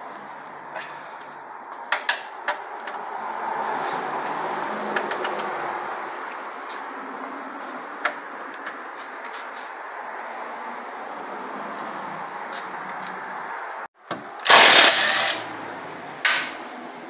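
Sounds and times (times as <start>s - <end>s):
workshop background noise: 1.2s - 17.0s.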